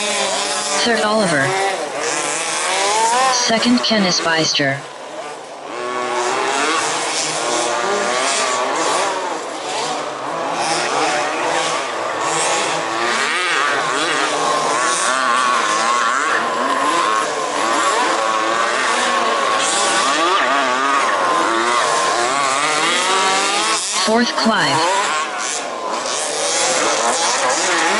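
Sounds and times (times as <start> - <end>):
small two-stroke engines revving: 0.0 - 4.2, 4.8 - 27.9.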